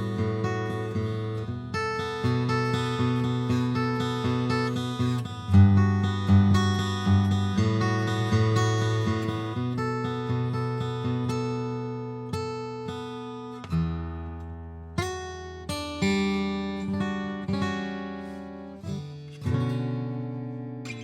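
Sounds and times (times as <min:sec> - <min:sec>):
acoustic guitar chords: 0:00.0 - 0:21.0.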